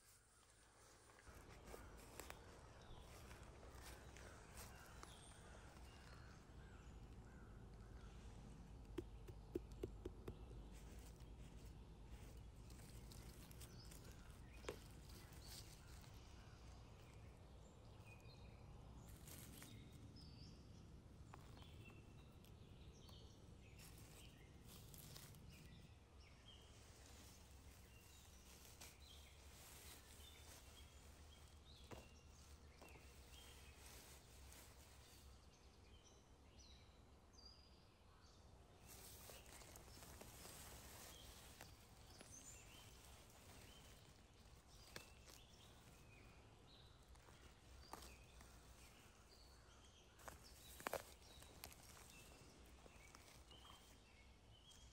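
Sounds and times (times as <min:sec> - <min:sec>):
hands rustling dry leaves: 0:00.0 - 0:20.2, 0:21.3 - 0:35.6, 0:38.8 - 0:54.9.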